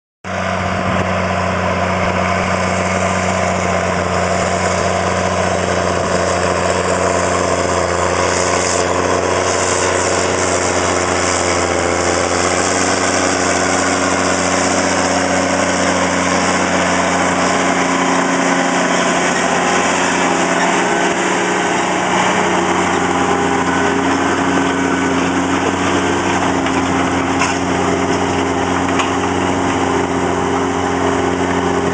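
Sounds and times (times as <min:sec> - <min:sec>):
tractor diesel engine under load: 0:00.2 - 0:31.9.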